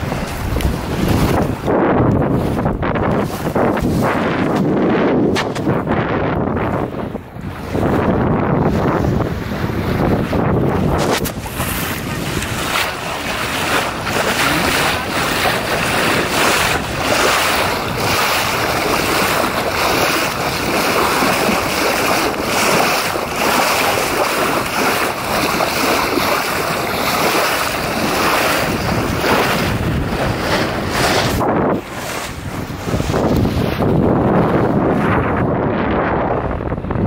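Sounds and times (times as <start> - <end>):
water splashing along hull: 0.0 - 37.0
wind buffeting microphone: 0.0 - 37.0.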